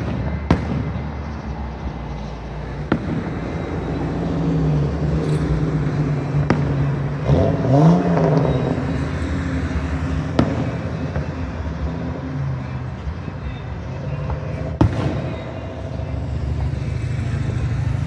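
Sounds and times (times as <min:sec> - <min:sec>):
car engine running and revving: 0:00.0 - 0:18.0
firework bangs: 0:00.0 - 0:18.0.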